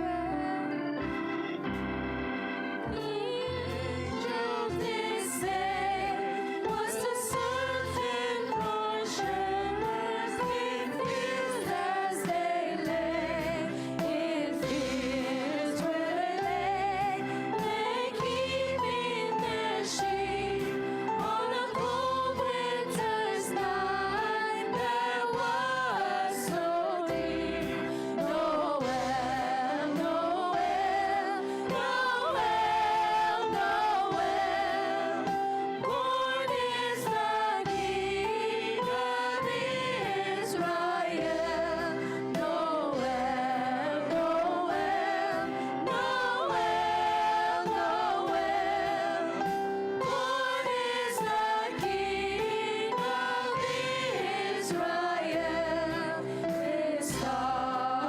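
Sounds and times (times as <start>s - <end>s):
choir singing: 0.0s - 58.0s
musical accompaniment: 0.0s - 58.0s.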